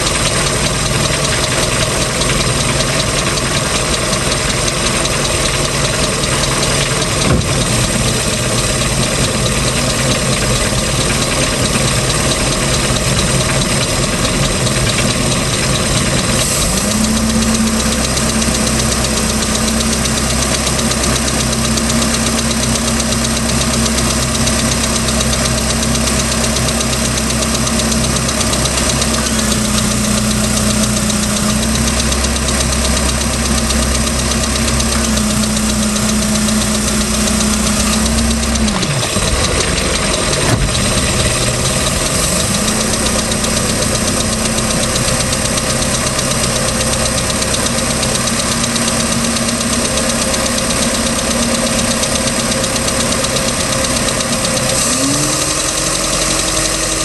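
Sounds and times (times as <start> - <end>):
boat engine running: 0.0 - 57.0
engine ticking noise: 0.0 - 57.0.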